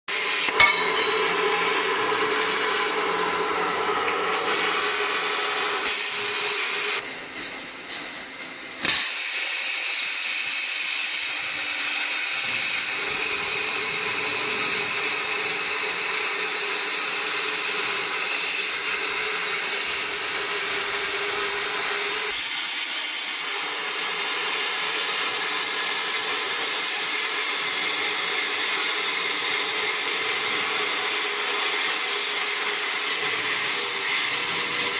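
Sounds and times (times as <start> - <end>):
plasma cutter hissing: 0.1 - 34.9.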